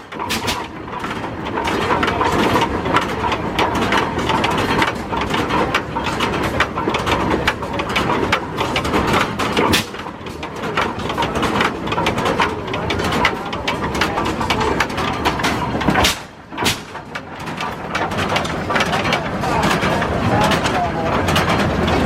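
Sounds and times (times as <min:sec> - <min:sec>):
tractor engine exhaust pops: 0:00.0 - 0:10.4, 0:11.0 - 0:19.9.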